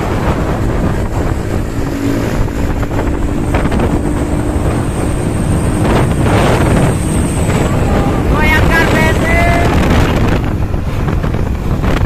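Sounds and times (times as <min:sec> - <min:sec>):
truck and traffic noise: 0:00.0 - 0:12.0
wind buffeting microphone: 0:00.0 - 0:12.0.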